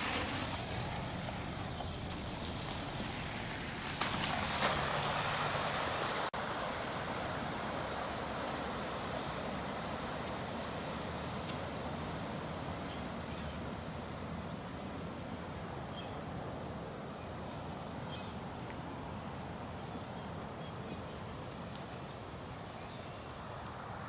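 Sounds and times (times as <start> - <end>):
outdoor background rush: 0.0 - 24.0.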